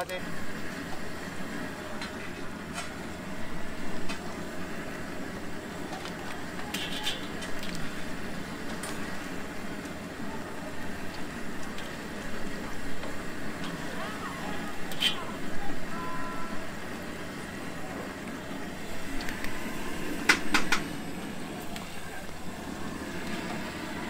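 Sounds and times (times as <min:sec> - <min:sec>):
oil sizzling: 0:00.3 - 0:24.0.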